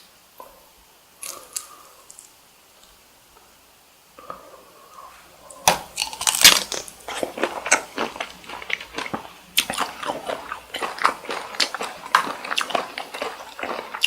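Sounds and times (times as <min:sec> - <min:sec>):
chewing shrimp: 0:01.2 - 0:03.0, 0:04.2 - 0:14.0.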